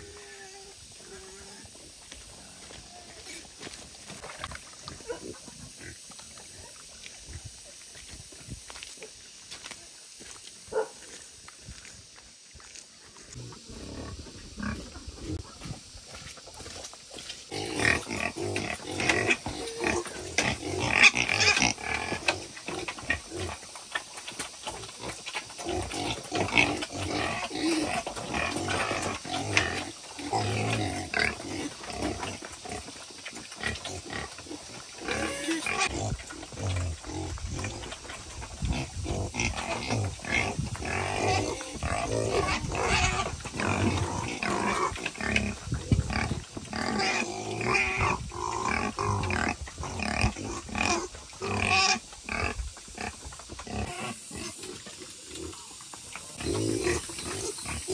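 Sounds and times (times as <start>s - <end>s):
wild boar grunting and calling: 0.0s - 7.6s, 17.5s - 57.9s.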